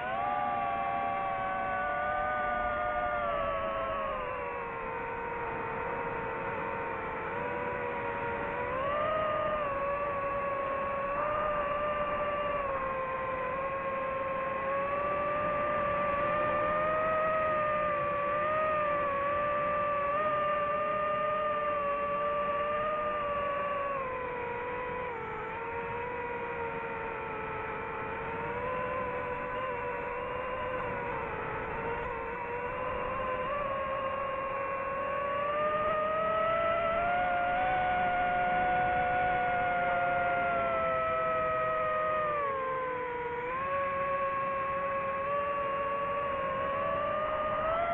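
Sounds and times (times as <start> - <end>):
drone propellers whining: 0.0 - 47.9.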